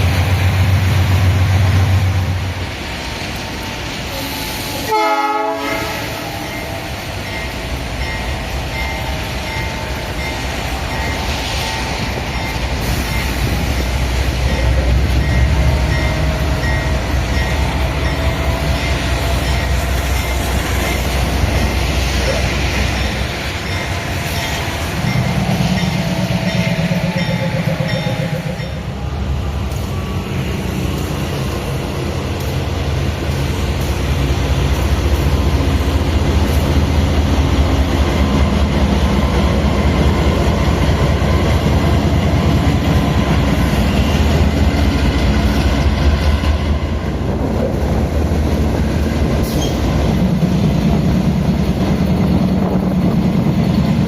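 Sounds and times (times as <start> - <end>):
diesel locomotive rumble: 0.0 - 54.0.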